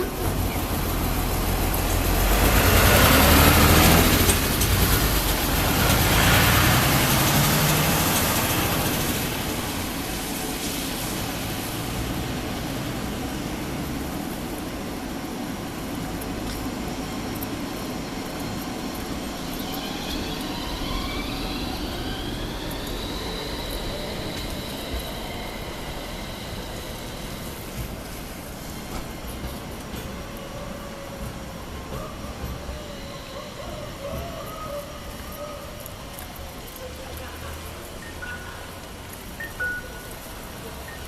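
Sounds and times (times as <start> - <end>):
rail noise: 0.0 - 41.0
tram traction motors whining: 0.0 - 41.0.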